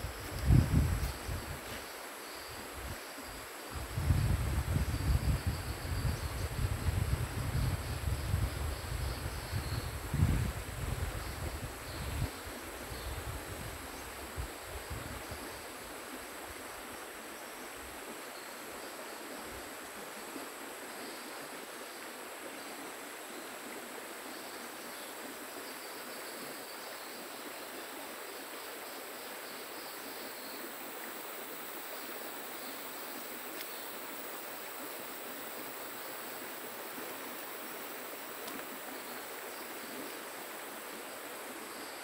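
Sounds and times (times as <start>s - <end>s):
river water flowing: 0.0s - 4.0s, 11.4s - 42.0s.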